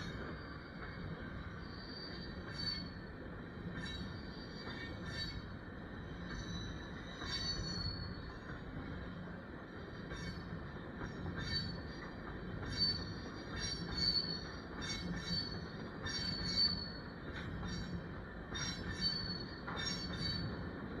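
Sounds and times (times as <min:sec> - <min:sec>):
train wheels squealing: 0:00.0 - 0:21.0.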